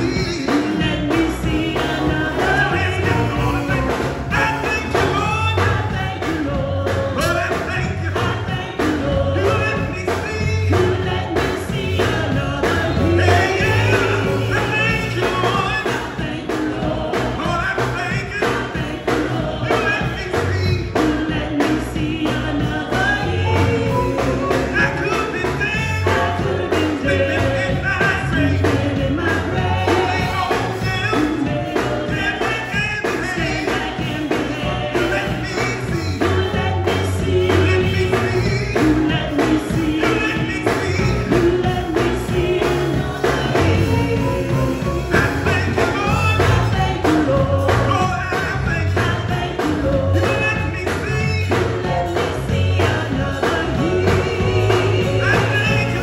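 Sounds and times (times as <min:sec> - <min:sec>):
band with bass and drums: 0:00.0 - 0:56.0
gospel choir singing: 0:00.0 - 0:56.0.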